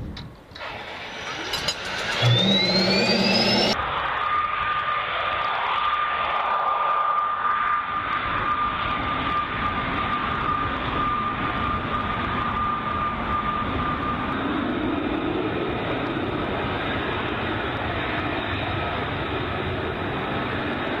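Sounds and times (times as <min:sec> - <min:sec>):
jet engines roaring with whine: 0:00.0 - 0:21.0.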